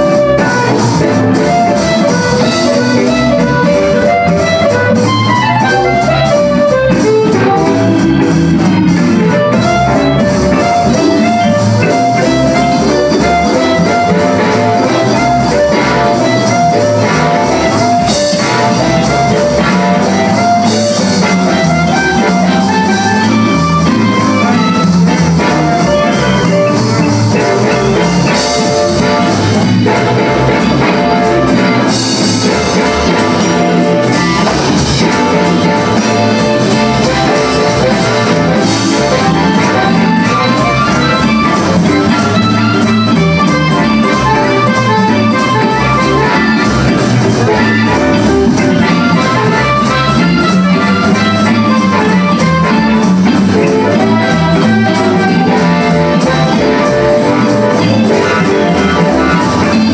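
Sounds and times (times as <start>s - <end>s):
amplified harmonica solo: 0.0s - 59.9s
drums: 0.0s - 59.9s
organ: 0.0s - 59.9s.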